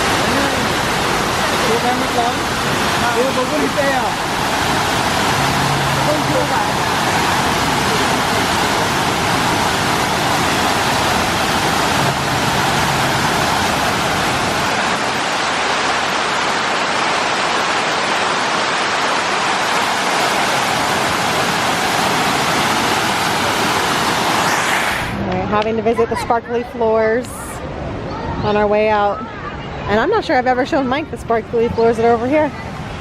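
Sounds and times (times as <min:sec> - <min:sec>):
fountain water rushing: 0:00.0 - 0:27.8, 0:29.9 - 0:33.0.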